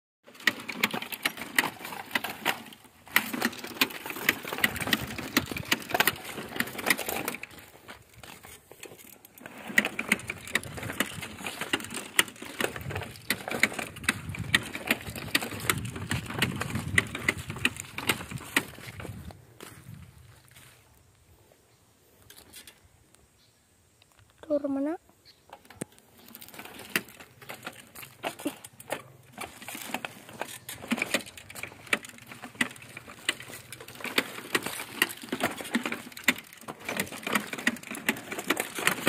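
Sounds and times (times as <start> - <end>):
wheels crunching over soil clods: 0.2 - 23.2, 24.1 - 39.0
seed planter mechanism clicking: 0.3 - 7.8, 8.4 - 19.2, 25.5 - 39.0.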